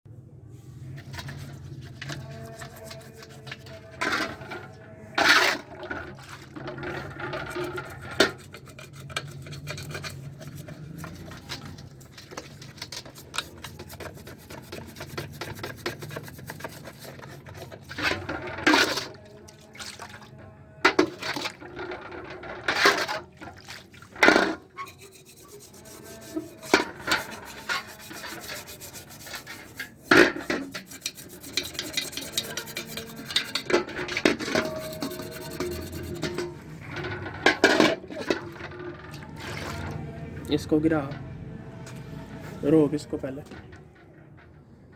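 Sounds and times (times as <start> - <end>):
hand scraping metal cover: 0.8 - 19.3, 20.8 - 41.4, 42.2 - 44.9
scrapes and clatters: 0.8 - 44.9.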